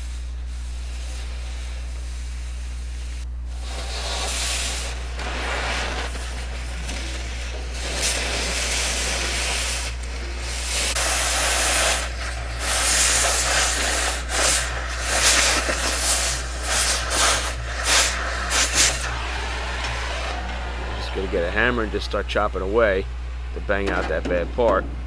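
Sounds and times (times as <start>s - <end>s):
cutting torch hissing: 0.0s - 22.9s.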